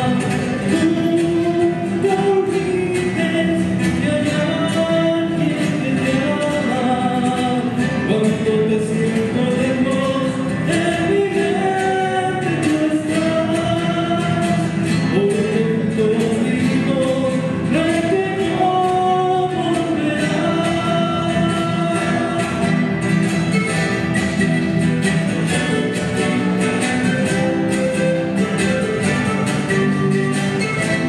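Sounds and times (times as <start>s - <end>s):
acoustic guitars: 0.0s - 31.0s.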